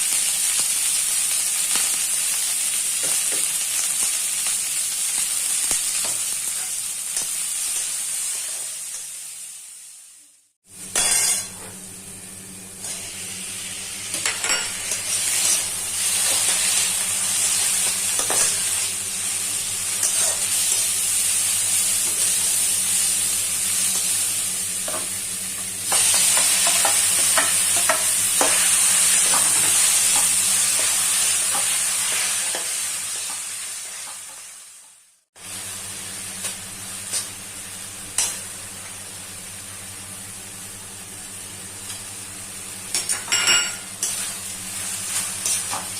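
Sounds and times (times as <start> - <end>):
food sizzling in oil: 0.0 - 45.9.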